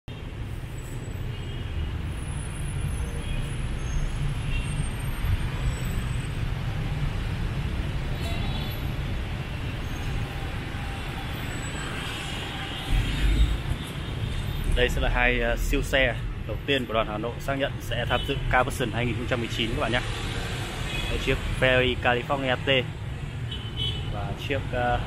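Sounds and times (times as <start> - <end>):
street traffic rumble: 0.1 - 25.0.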